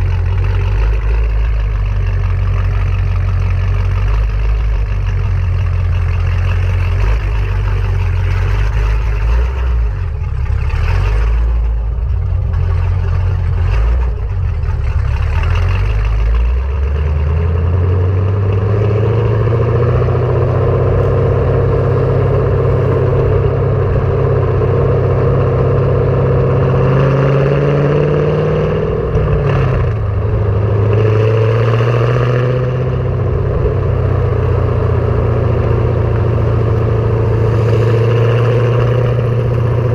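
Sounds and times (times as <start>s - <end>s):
car engine rumbling and revving: 0.0s - 39.9s.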